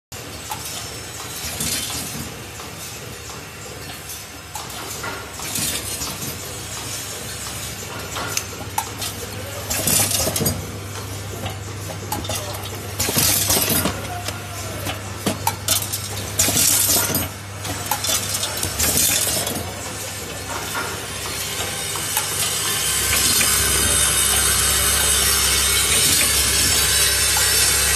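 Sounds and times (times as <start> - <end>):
machine low hum: 5.4 - 27.9.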